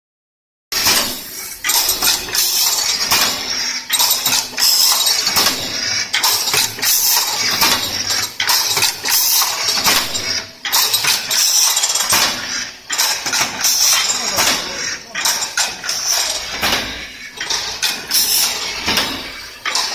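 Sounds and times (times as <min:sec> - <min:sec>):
wire mesh weaving machine clattering: 0:00.8 - 0:19.9.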